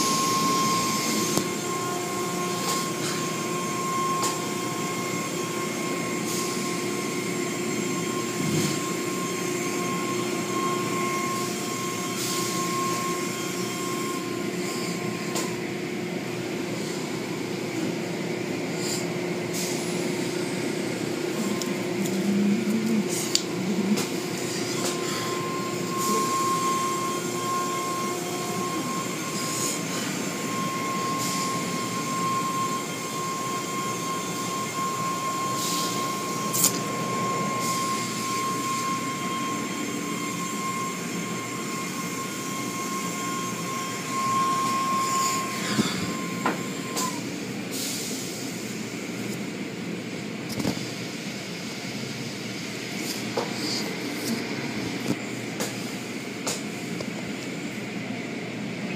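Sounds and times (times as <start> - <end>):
high whine: 0.0 - 49.3
car wash rumble and hiss: 0.0 - 58.9.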